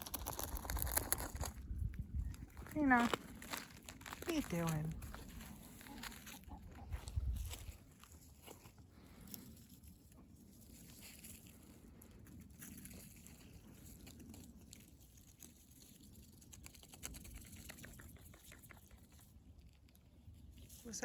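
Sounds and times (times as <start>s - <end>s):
duck pecking and crunching snow: 0.0s - 21.0s.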